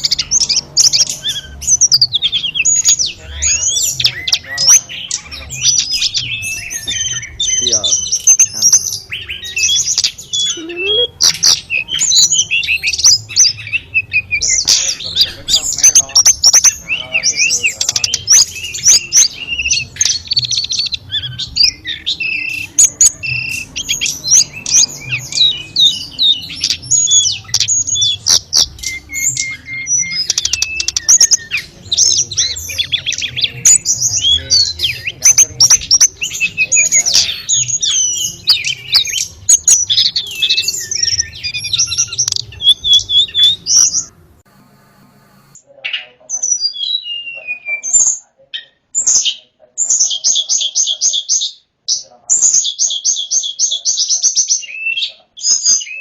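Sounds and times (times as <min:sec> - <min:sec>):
bird singing chirps and trills: 0:00.0 - 0:44.4, 0:45.4 - 0:56.0.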